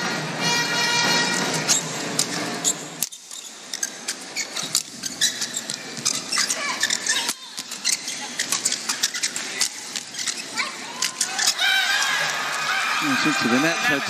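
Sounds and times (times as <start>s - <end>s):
shoes squeaking on court: 1.0s - 12.7s.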